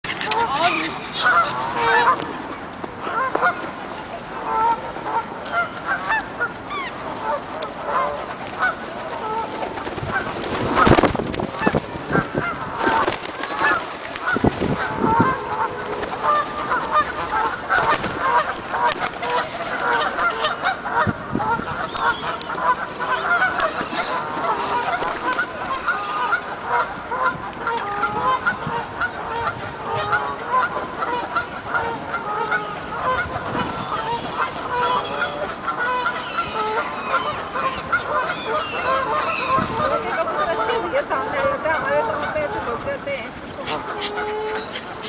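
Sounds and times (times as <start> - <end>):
flock of birds calling: 0.0 - 45.0.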